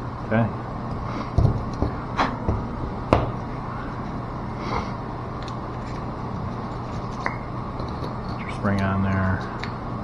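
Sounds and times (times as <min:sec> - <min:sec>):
low machinery hum: 0:00.0 - 0:10.0.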